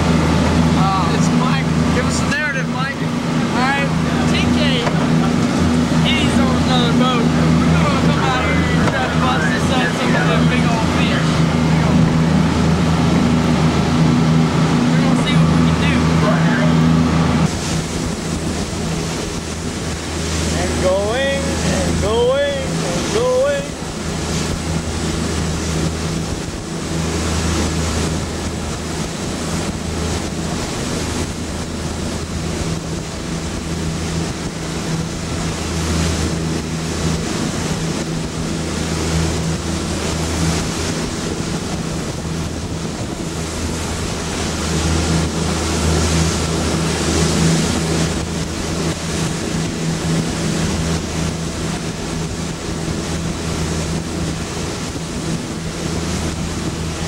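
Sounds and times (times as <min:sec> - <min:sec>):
boat engine humming: 0:00.0 - 0:57.0
sea water washing: 0:00.0 - 0:57.0
wind buffeting microphone: 0:00.0 - 0:57.0.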